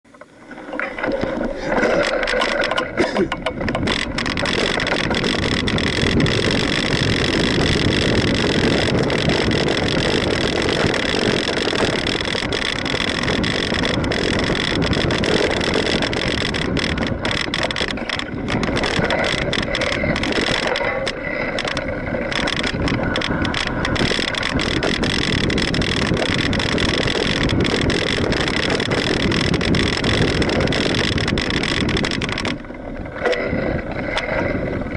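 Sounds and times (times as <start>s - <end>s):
bike rattling over bumps: 0.1s - 34.9s
bike tyres on dirt: 0.1s - 34.9s
wind noise on microphone: 1.0s - 34.9s.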